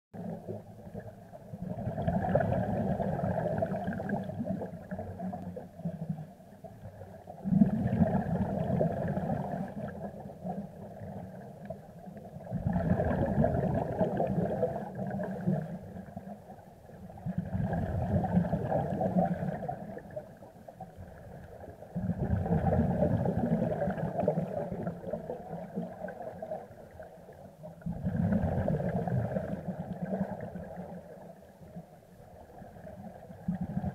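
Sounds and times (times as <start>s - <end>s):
underwater regulator bubbles: 0.2s - 16.3s, 16.9s - 31.8s, 32.4s - 33.9s.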